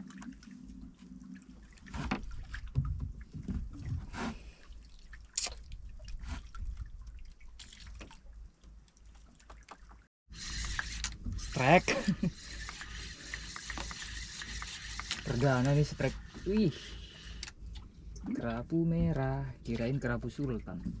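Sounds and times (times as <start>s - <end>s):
water splashing against boat: 0.0s - 21.0s.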